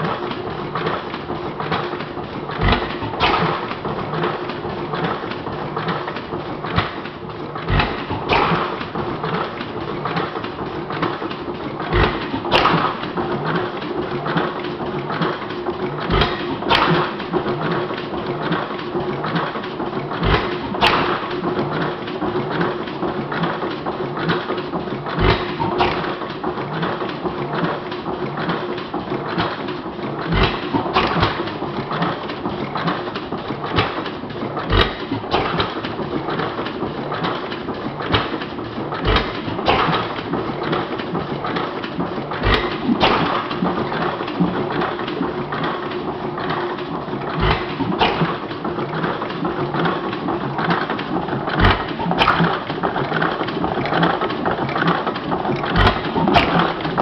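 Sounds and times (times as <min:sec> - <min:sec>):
engine parts clicking and clattering: 0:00.0 - 0:57.0
gas engine thumping: 0:00.0 - 0:57.0.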